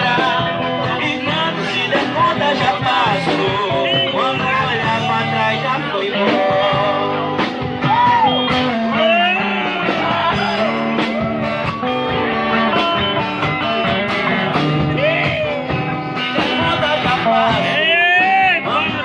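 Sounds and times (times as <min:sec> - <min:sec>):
bass: 0:00.0 - 0:19.0
lead melody with bending notes: 0:00.0 - 0:19.0
steady drum beat: 0:00.0 - 0:19.0.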